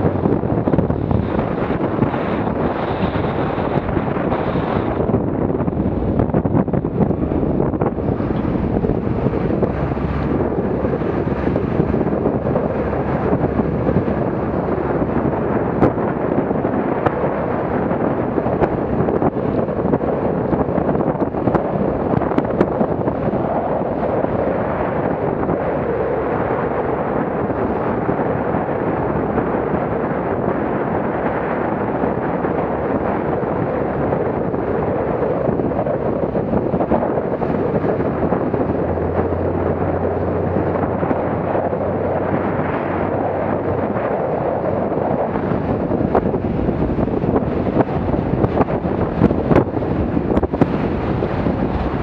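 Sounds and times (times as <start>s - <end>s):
motorboat water noise: 0.0s - 52.0s
wind buffeting microphone: 0.0s - 52.0s.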